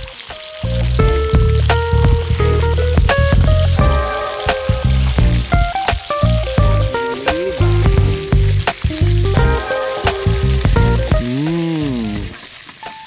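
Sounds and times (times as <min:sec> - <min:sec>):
background music: 0:00.0 - 0:12.4
fish sizzling in a frying pan: 0:00.0 - 0:13.0.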